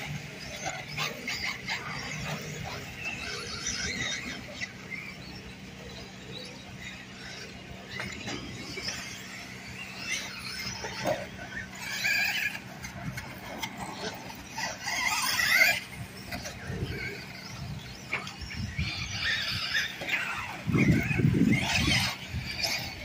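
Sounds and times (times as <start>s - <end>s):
toy truck motor whining: 0.0s - 23.0s
tyres scratching on dirt: 0.0s - 23.0s.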